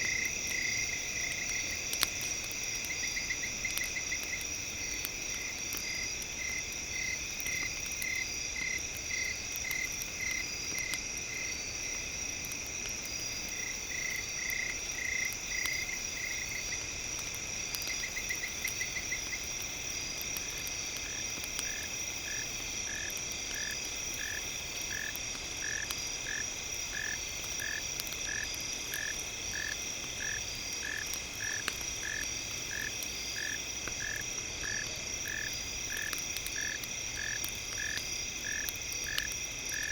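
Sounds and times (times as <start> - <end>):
faint light crackles: 0.0 - 39.9
insects droning: 0.0 - 39.9.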